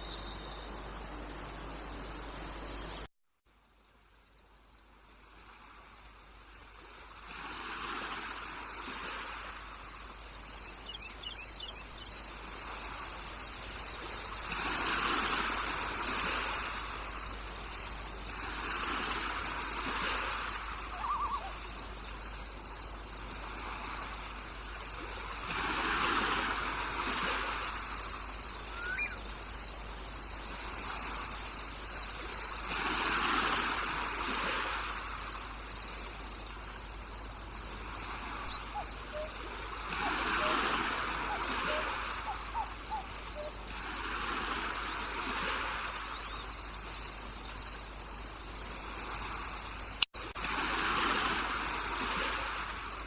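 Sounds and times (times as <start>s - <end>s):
cricket chirps: 0.0s - 53.0s
insect drone: 0.0s - 53.0s.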